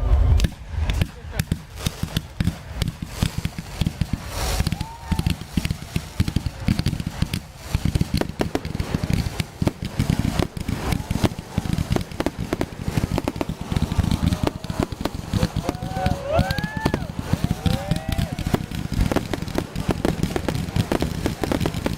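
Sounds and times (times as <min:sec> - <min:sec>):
fireworks bangs and crackling: 0:00.0 - 0:21.9.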